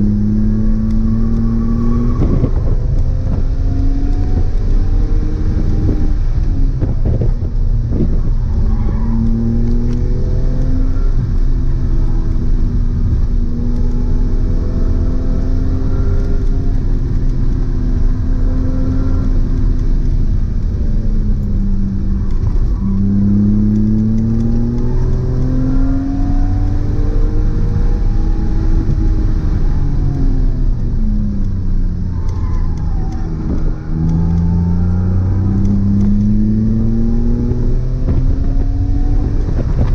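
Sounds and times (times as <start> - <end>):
car engine revving: 0.0 - 39.9
gear changes: 0.0 - 39.9.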